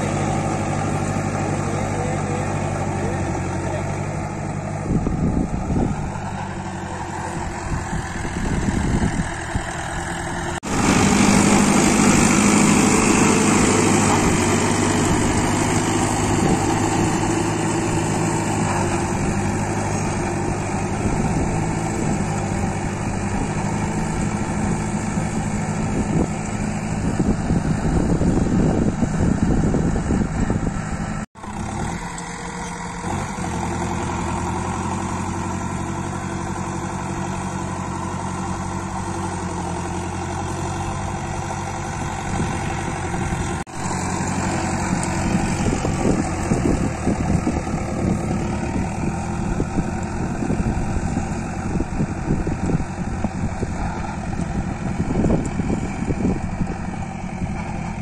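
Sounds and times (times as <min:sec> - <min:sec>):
diesel tractor engine under load: 0:00.0 - 0:58.0.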